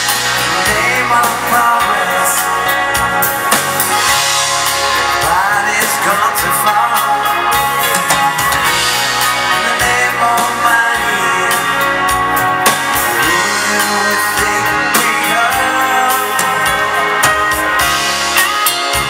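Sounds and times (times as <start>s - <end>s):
live dance band playing: 0.0s - 19.0s.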